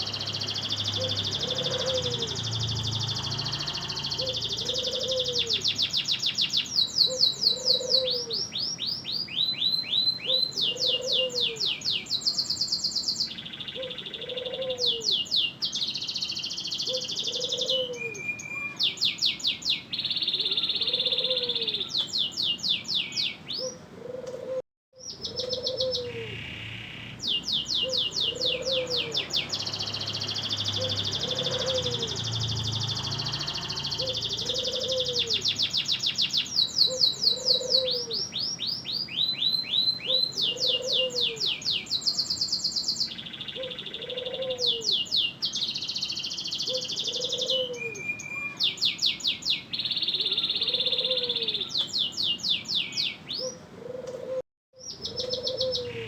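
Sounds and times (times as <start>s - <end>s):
canary singing trills: 0.0s - 23.9s, 25.0s - 53.7s, 54.8s - 56.0s.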